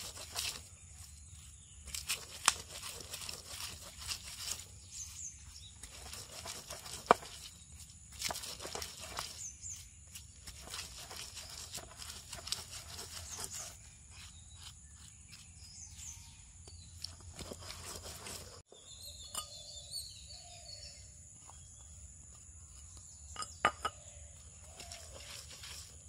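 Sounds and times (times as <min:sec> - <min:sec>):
stone roller grinding on slab: 0:00.0 - 0:09.6, 0:10.2 - 0:16.1, 0:17.1 - 0:18.7, 0:21.4 - 0:26.0.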